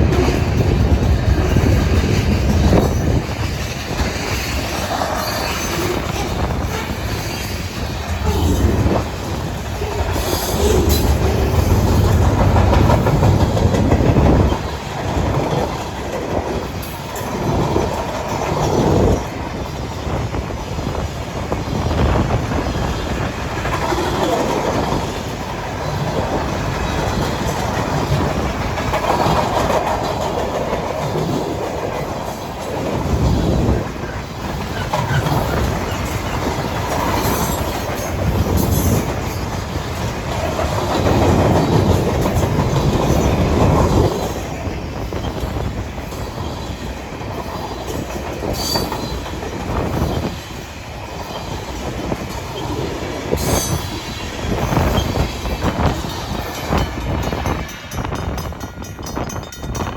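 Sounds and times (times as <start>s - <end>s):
train wheel squeals: 0.0s - 29.4s, 32.1s - 59.9s
freight train rumbling past: 0.0s - 59.9s.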